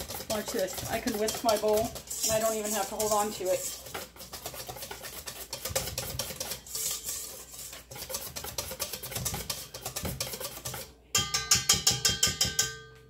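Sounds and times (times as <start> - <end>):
whisk beating in metal bowl: 0.0 - 12.7.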